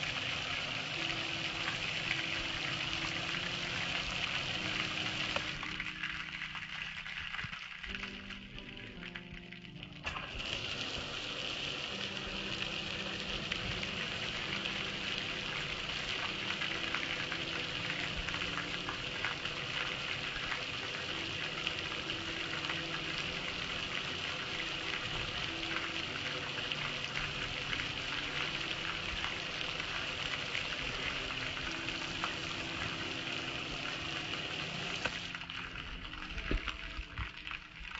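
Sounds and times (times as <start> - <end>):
water running and splashing: 0.0 - 37.9.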